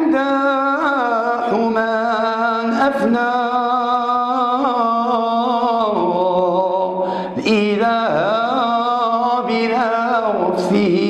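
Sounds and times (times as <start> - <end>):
man chanting a hymn unaccompanied: 0.0 - 11.0.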